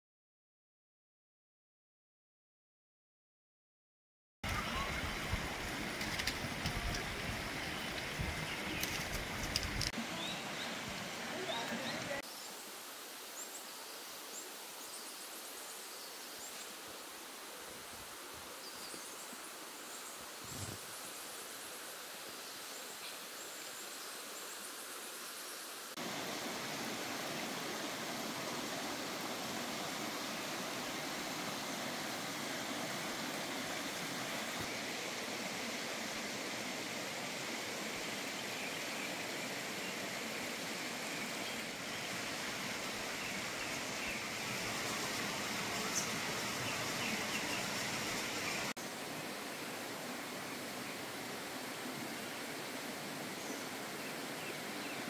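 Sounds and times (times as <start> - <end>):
stream rushing over rocks: 4.4 - 55.0.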